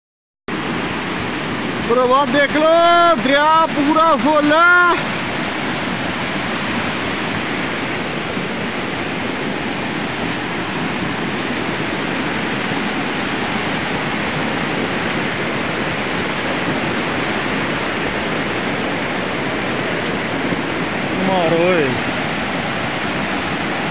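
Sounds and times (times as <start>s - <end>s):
flooded river rushing: 0.5s - 23.9s.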